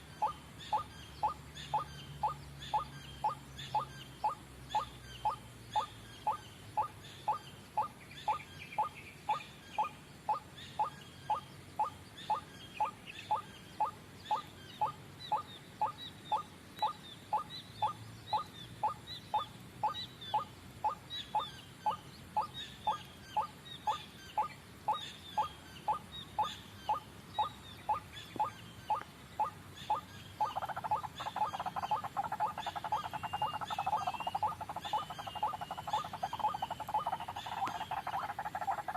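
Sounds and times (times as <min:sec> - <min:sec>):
faint high chirps: 0:00.0 - 0:38.9
waterhen croaking calls: 0:00.0 - 0:38.9.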